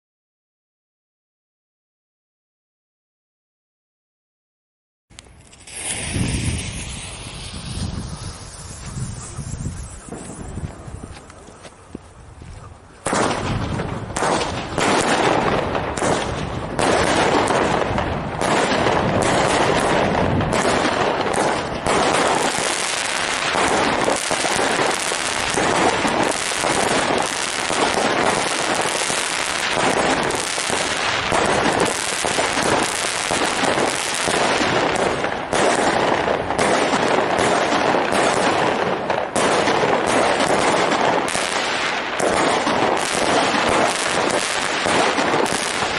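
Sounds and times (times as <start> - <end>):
firework cake launches and bursts: 5.3 - 10.6, 13.1 - 45.9.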